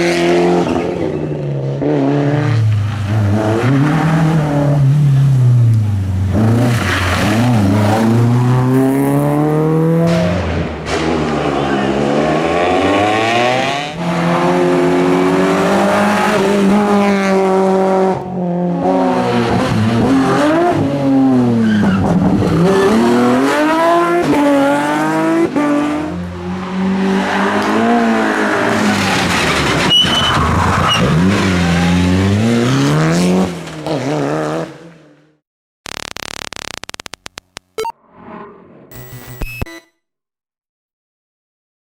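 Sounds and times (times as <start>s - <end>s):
rally car engine revving: 0.0s - 35.2s.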